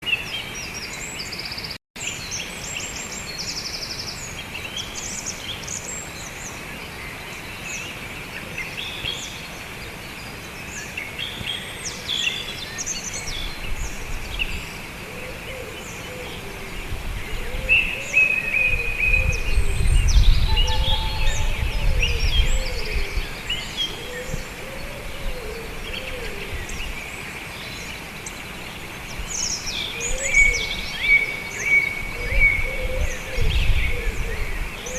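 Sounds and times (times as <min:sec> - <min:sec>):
birds chirping and singing: 0:00.0 - 0:34.9.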